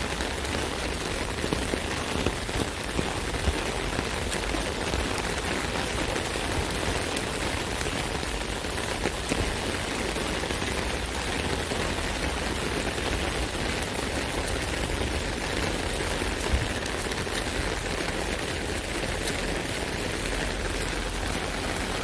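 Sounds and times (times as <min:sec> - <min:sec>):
rain pattering on umbrella: 0:00.0 - 0:22.0.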